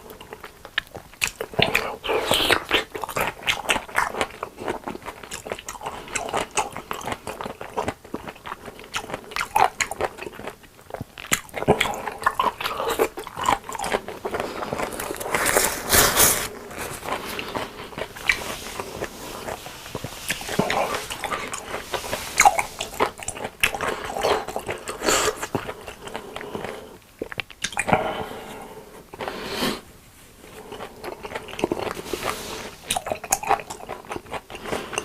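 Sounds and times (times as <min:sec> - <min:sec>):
chewing and crunching food: 0:00.0 - 0:29.6, 0:30.2 - 0:35.0.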